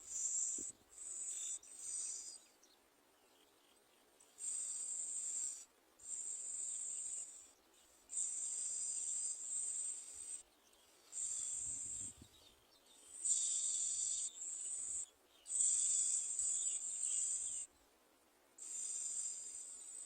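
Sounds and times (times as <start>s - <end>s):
insects chirring: 0.0s - 2.4s, 4.3s - 12.2s, 13.1s - 17.7s, 18.6s - 20.0s.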